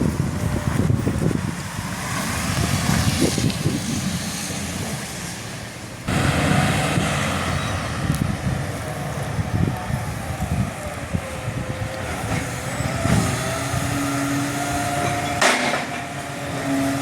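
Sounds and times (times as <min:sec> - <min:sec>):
wind buffeting microphone: 0:00.0 - 0:05.3, 0:06.1 - 0:17.0
vehicle engine rumbling: 0:00.0 - 0:17.0.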